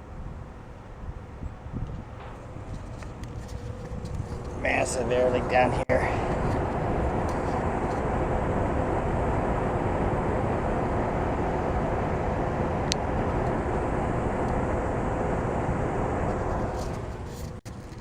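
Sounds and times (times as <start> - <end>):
heat pump humming: 0.0 - 18.0.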